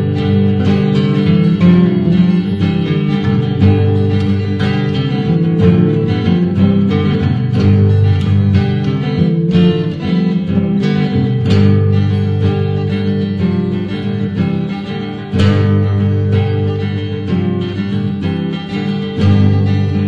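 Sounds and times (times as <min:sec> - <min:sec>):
guitar plucked and strummed: 0:00.0 - 0:20.0.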